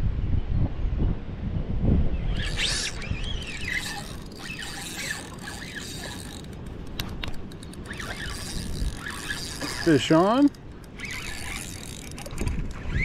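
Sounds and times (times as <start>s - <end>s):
wind buffeting microphone: 0.0s - 13.0s
fishing reel gears whirring: 2.4s - 13.0s
reel clicks: 2.4s - 13.0s.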